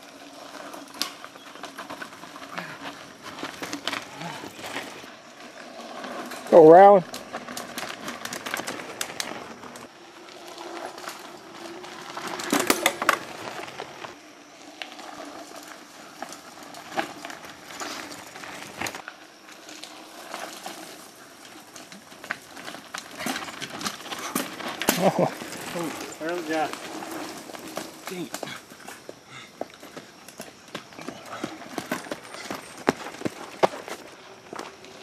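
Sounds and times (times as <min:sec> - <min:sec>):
bike drivetrain clicks: 0:00.0 - 0:35.0
tyres crunching on loose dirt: 0:00.0 - 0:35.0.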